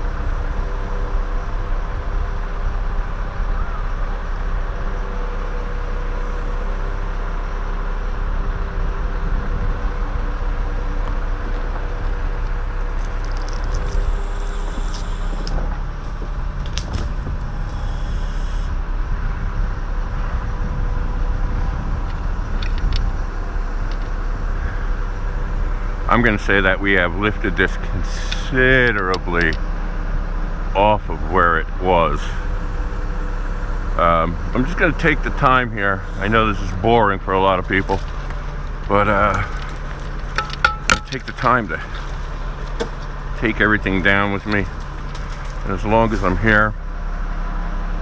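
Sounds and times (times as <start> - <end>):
truck engine running: 0.0 - 48.0.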